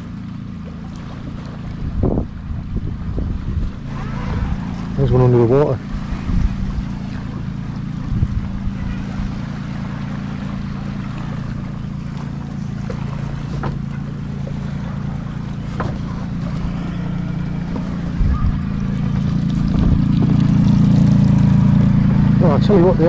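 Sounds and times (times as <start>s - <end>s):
boat engine idling: 0.0s - 23.0s
water noise: 0.0s - 23.0s
wind: 0.0s - 23.0s.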